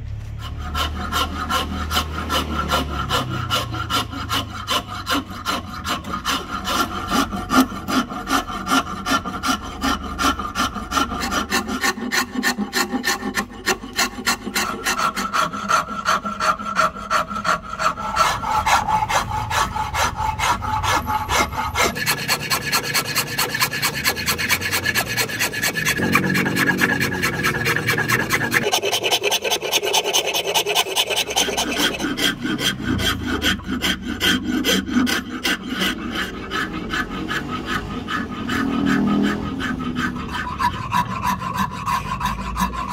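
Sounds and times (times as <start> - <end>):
rasp filing wood: 0.1 - 42.9.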